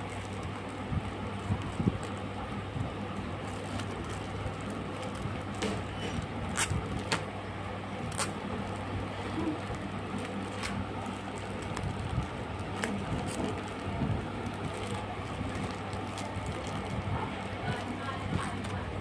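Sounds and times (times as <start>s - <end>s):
plastic bag rustling and tearing: 0.0s - 2.3s, 3.0s - 7.3s, 8.0s - 19.0s
steady low hum: 0.0s - 19.0s.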